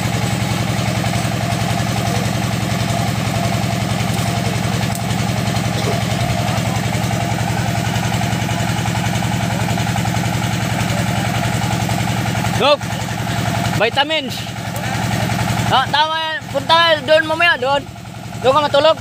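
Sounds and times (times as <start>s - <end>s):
drilling rig engine pulsing: 0.0s - 19.0s.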